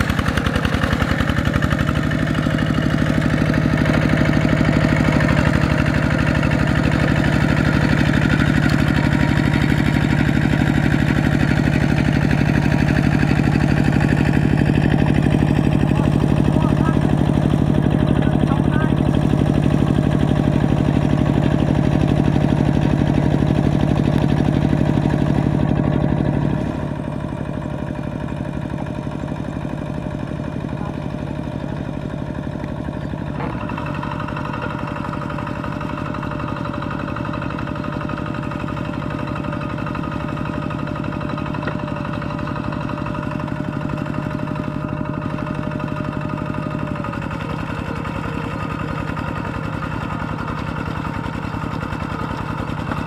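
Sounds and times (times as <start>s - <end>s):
diesel tractor engine running: 0.0s - 53.0s.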